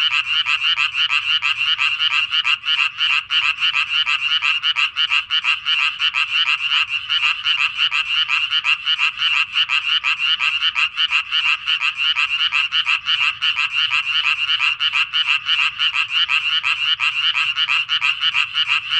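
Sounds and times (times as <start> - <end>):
frog chorus: 0.0 - 18.9.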